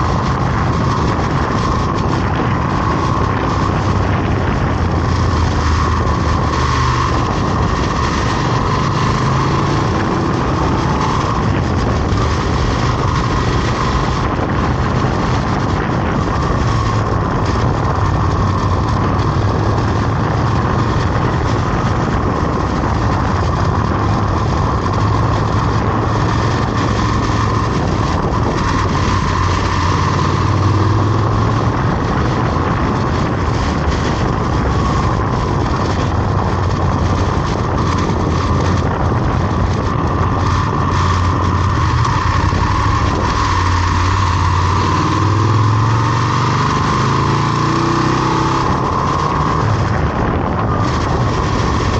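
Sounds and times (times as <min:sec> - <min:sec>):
road and wind noise: 0:00.0 - 0:51.9
vehicle engine running: 0:00.0 - 0:51.9.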